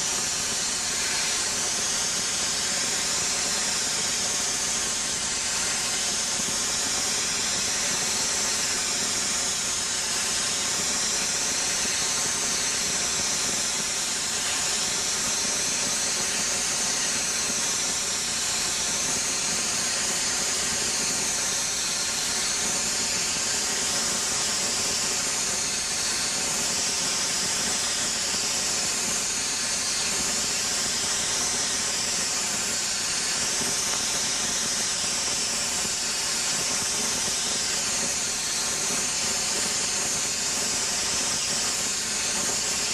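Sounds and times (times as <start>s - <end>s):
high-pressure water jet hissing: 0.0s - 42.9s.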